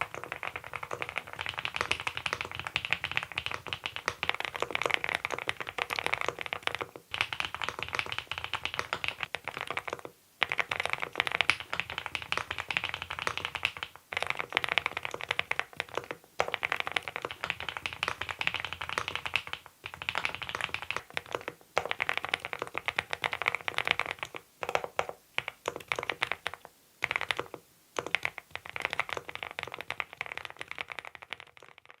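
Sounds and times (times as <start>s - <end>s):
mechanical keyboard typing: 0.0s - 32.0s.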